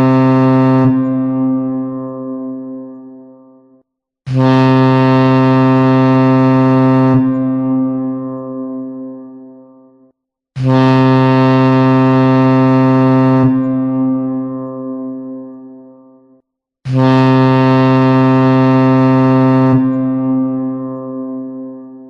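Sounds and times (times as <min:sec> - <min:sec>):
ship's horn blasts: 0:00.0 - 0:22.0.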